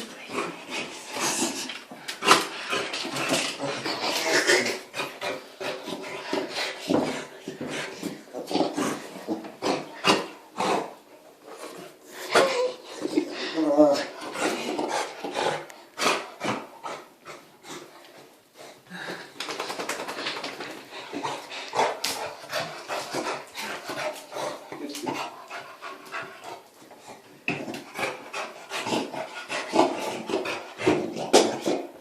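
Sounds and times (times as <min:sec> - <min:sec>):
dog panting and grunting: 0:00.0 - 0:32.0.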